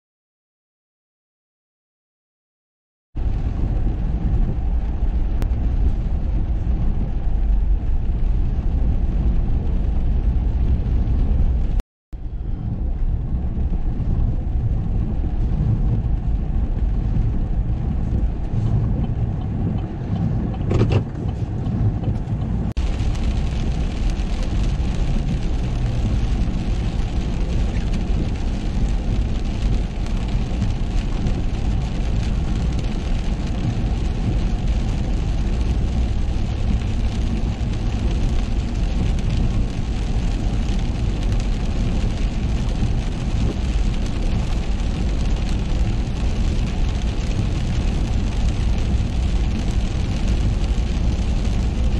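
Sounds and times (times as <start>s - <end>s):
road and engine rumble: 3.2s - 51.9s.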